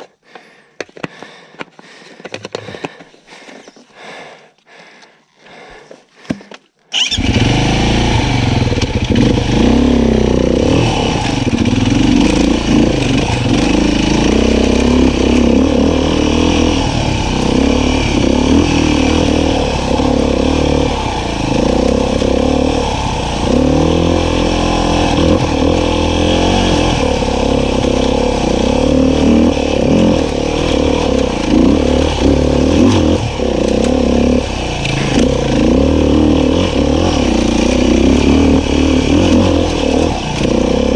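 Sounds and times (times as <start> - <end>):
dirt bike engine revving: 6.9 - 40.9.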